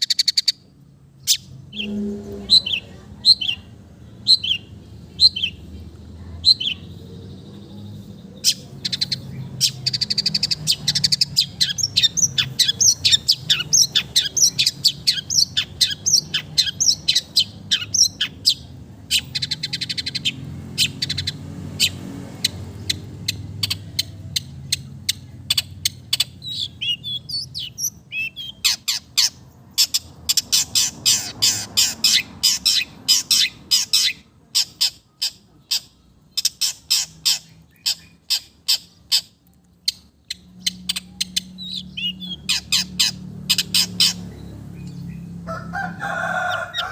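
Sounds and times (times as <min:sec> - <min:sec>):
shrike chattering song: 0:00.0 - 0:45.4.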